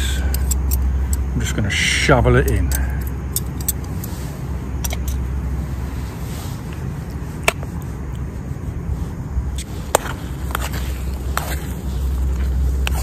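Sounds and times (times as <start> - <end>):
gas stove burning: 0.0 - 13.0.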